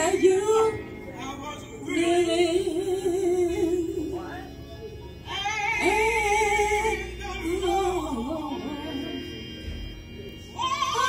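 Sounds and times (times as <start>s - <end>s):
person singing karaoke: 0.0s - 11.0s
recorded backing track: 0.0s - 11.0s.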